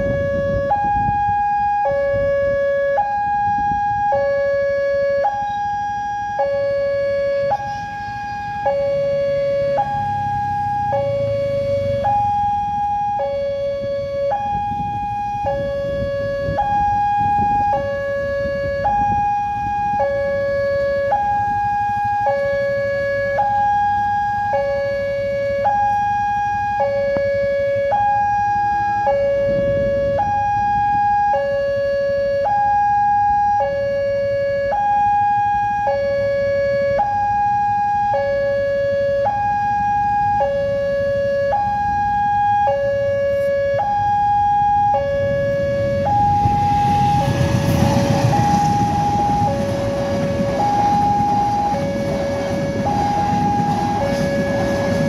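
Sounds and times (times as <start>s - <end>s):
level crossing two-tone alarm: 0.0s - 55.0s.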